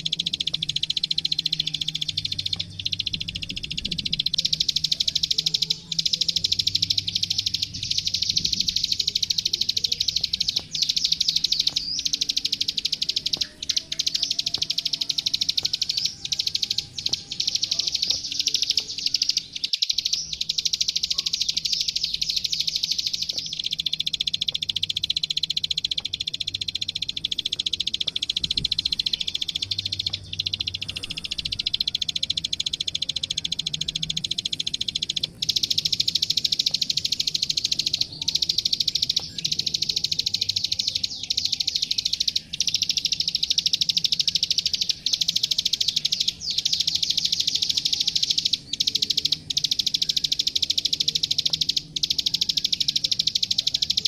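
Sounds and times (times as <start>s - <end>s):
bird clicking trill: 0.0s - 54.0s.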